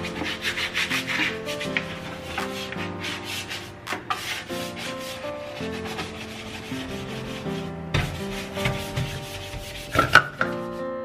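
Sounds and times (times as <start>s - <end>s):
scrubbing a steel sink: 0.0s - 10.8s
soft background music: 0.0s - 11.0s.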